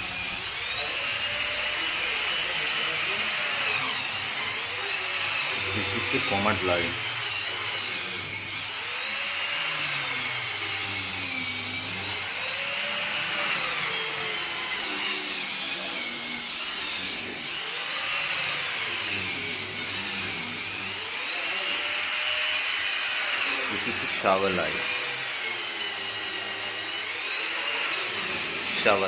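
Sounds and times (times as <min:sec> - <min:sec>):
motor running: 0:00.0 - 0:29.0.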